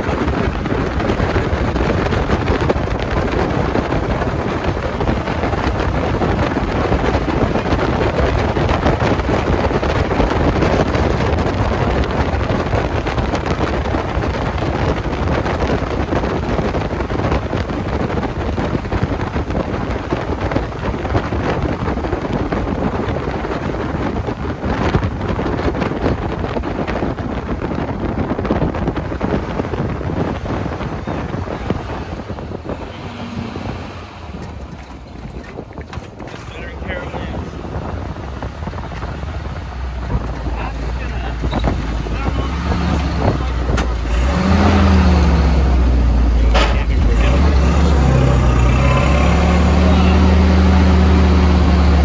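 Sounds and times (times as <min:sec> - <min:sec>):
heavy wind on microphone: 0:00.0 - 0:52.0
vehicle road noise: 0:00.0 - 0:52.0.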